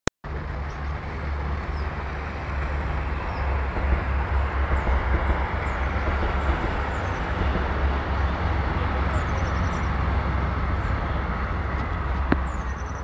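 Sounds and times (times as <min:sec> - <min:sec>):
model trains whirring on track: 0:00.3 - 0:13.0.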